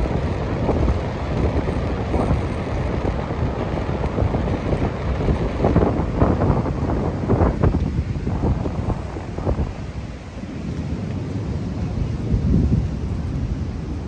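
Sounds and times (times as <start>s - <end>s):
gusty wind on microphone: 0.0s - 14.0s.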